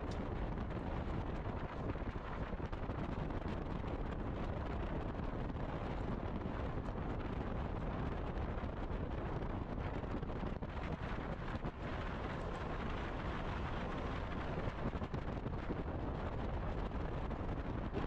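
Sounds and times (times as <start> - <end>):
wind rushing on microphone: 0.0 - 18.0.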